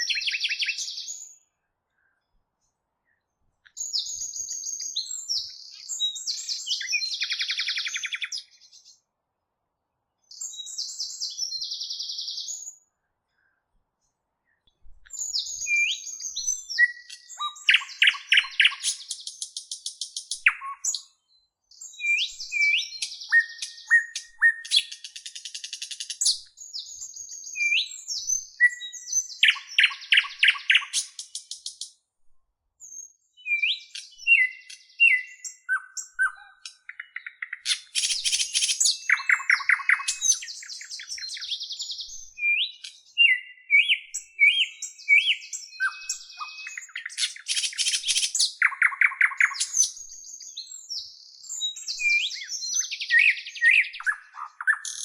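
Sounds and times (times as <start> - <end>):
bird chirping and trilling: 0.0 - 1.4, 3.8 - 8.9, 15.1 - 31.9, 32.8 - 55.0.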